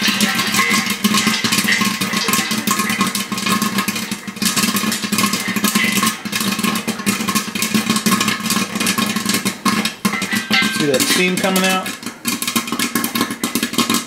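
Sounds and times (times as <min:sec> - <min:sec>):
popcorn popping in a pot: 0:00.0 - 0:14.0.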